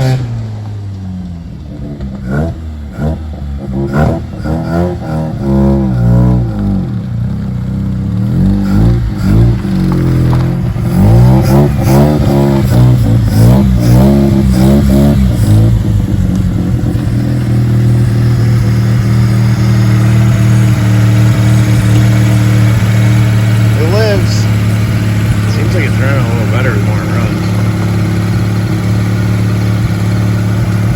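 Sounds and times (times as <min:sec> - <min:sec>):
rotary engine revving and idling: 0:00.0 - 0:30.9.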